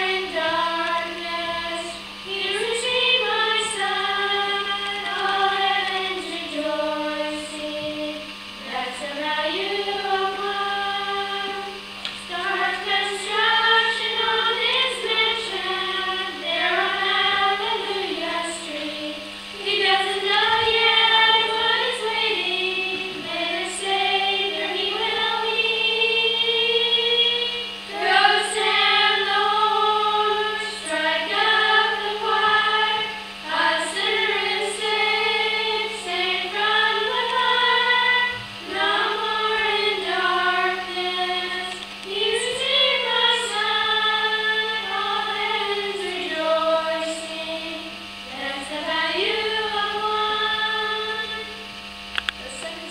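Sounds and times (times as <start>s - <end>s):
children singing: 0.0s - 51.5s
low hum: 0.0s - 52.9s.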